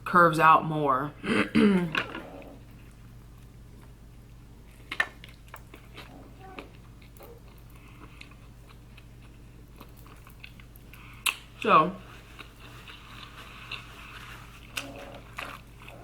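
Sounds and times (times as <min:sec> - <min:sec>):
faint steady hum: 0:00.0 - 0:16.0
person chewing food: 0:01.8 - 0:16.0.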